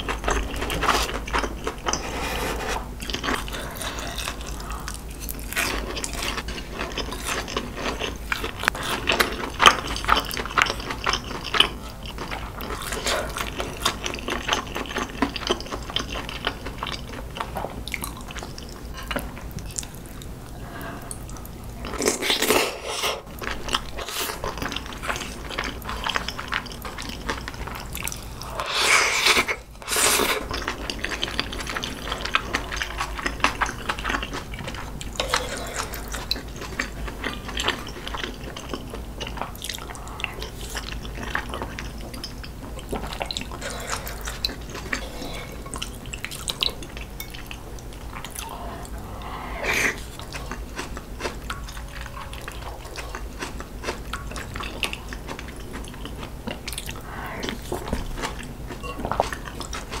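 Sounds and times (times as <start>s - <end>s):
wet chewing: 0.0s - 60.0s.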